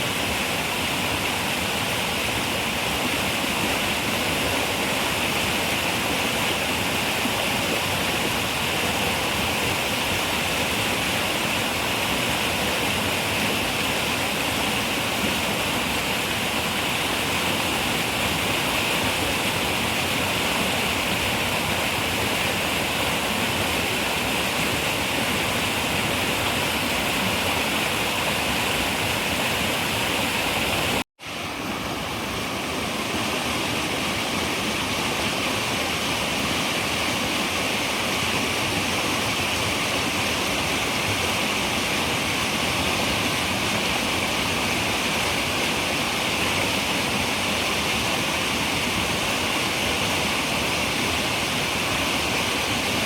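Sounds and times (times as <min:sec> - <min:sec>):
river running over rocks: 0:00.0 - 0:53.0.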